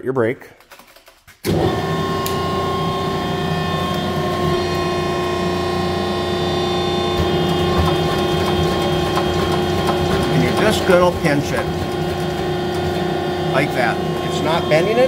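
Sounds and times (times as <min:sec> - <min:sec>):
motor humming and whining: 0:01.5 - 0:15.0.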